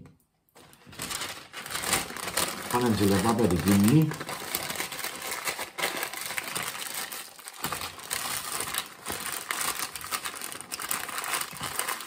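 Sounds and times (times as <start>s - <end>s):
baking paper crinkling: 0.6s - 12.0s.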